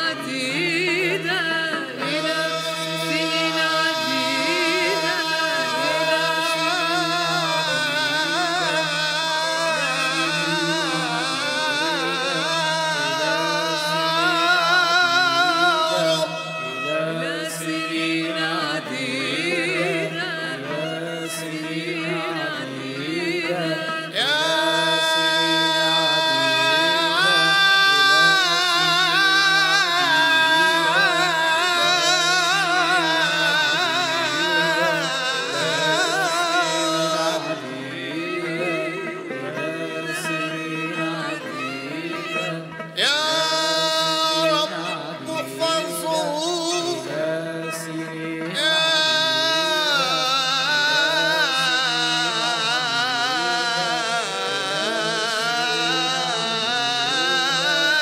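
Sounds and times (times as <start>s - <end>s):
man chanting a melody: 0.0s - 58.0s.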